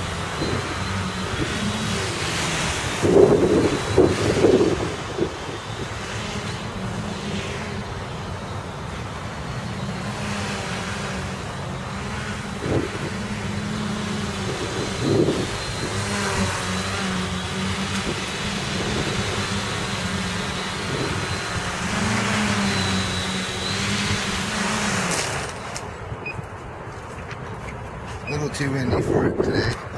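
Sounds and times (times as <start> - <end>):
drone motors buzzing: 0.0 - 29.9.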